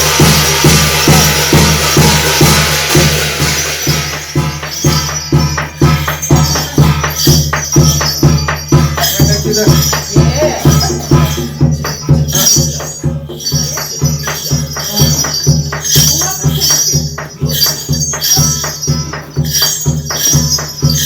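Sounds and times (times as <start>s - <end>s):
cymbals clashing: 0.0s - 21.0s
drum beating steadily: 0.0s - 21.0s
metal jingling: 0.0s - 21.0s.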